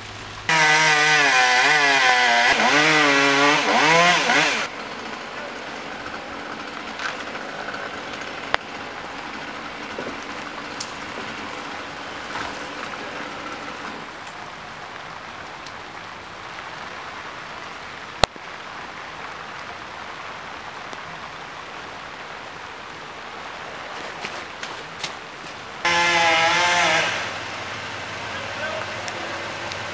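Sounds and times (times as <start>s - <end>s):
steady rain hiss: 0.0s - 0.8s, 4.6s - 29.9s.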